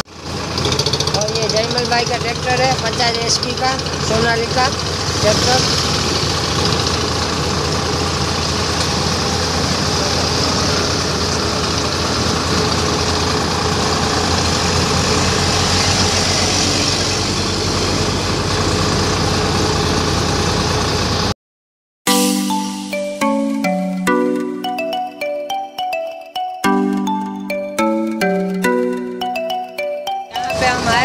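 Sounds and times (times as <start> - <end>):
tractor diesel engine running: 0.0 - 21.3, 26.6 - 31.0.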